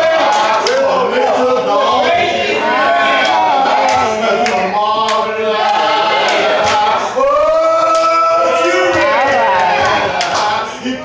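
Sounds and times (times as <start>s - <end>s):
voices chanting along: 0.0s - 11.0s.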